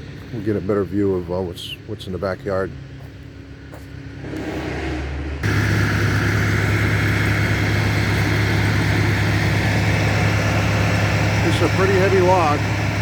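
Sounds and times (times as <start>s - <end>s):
engine-driven machine humming: 0.0s - 13.0s.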